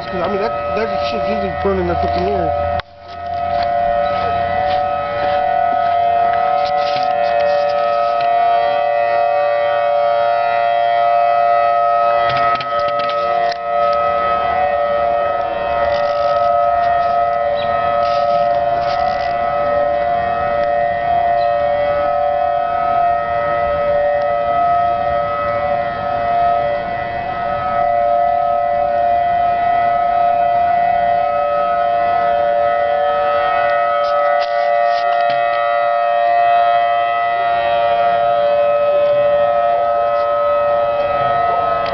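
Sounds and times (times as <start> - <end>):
tornado warning siren: 0.0 - 41.9.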